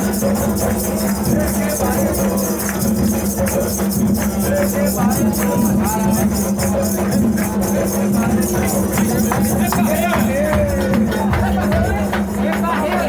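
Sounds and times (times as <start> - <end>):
shaken percussion rhythm: 0.0 - 13.0
voices: 0.0 - 13.0.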